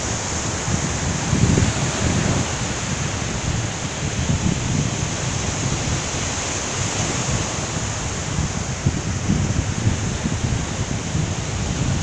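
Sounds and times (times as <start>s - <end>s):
small waves washing up beach: 0.0s - 12.0s
wind rumbling on microphone: 0.0s - 12.0s.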